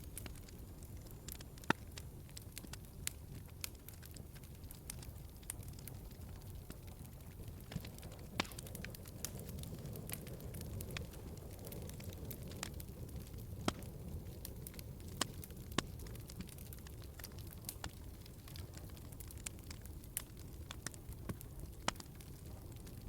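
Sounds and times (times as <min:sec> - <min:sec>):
wood fire burning: 0:00.0 - 0:23.0.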